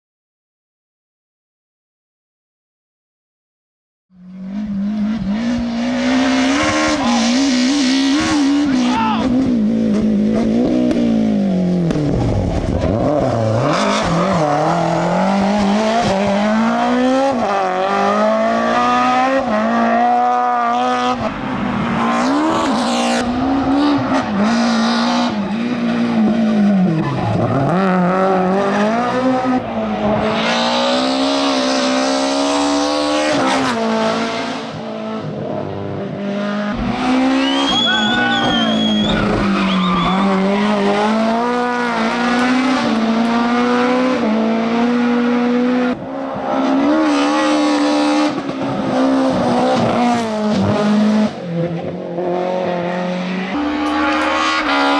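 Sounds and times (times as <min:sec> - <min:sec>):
rally car engine revving: 0:04.2 - 0:54.9.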